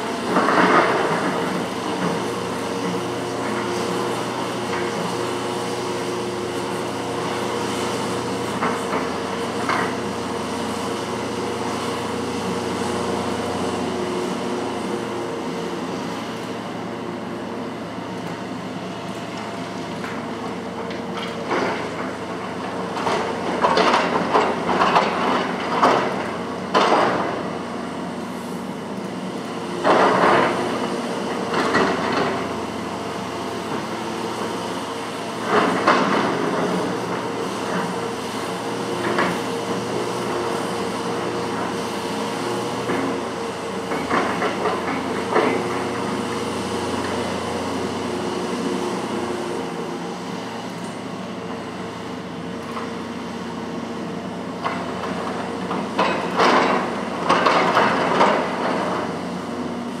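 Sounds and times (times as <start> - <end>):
excavator diesel engine droning: 0.0 - 60.0.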